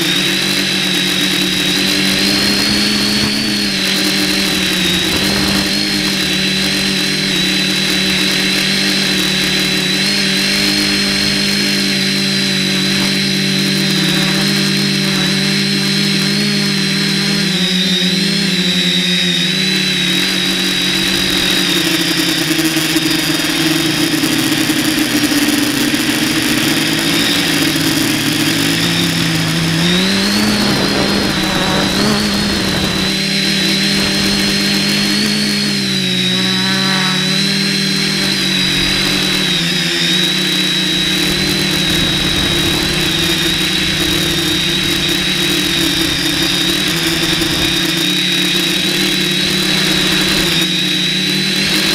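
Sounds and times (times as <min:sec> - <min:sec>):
drone motors humming: 0:00.0 - 0:51.9.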